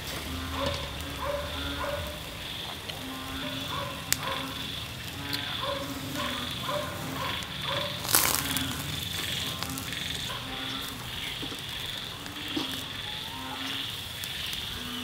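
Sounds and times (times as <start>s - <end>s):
meat crackling on grill: 0.0s - 15.0s.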